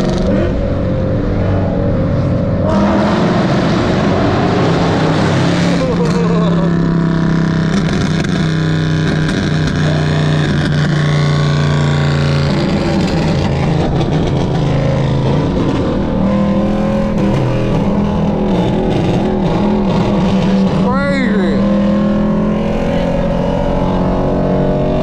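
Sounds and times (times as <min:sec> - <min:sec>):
car engine droning: 0:00.0 - 0:25.0.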